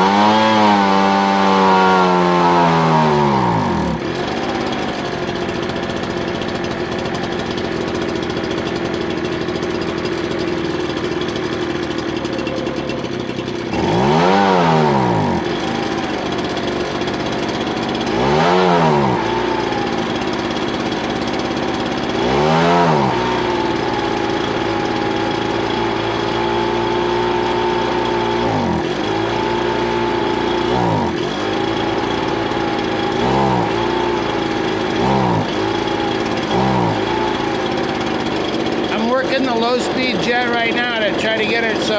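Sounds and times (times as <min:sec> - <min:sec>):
leaf blower engine revving: 0:00.0 - 0:41.9.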